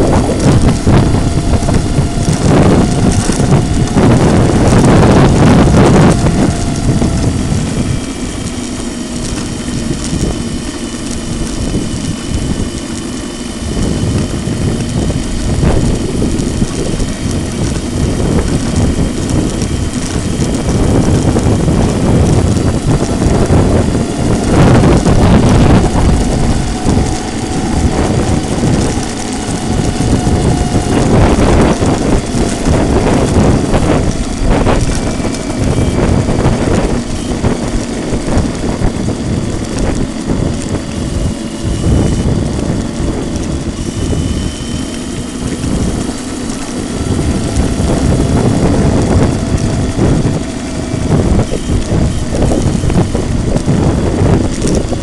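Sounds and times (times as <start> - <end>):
thin electric whine: 0.0 - 55.0
tyres rolling on brick paving: 0.0 - 55.0
wind on microphone: 0.0 - 55.0.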